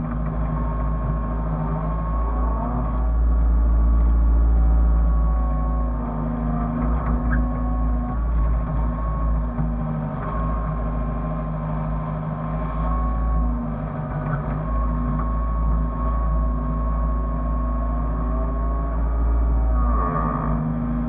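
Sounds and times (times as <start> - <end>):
excavator diesel engine running: 0.0 - 21.0
high steady whine: 0.0 - 21.0.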